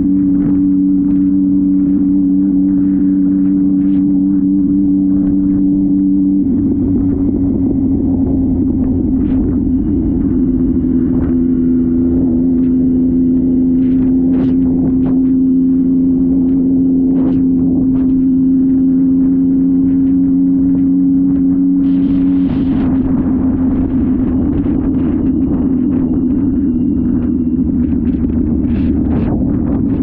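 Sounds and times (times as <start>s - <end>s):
motorcycle engine at high revs: 0.0s - 30.0s.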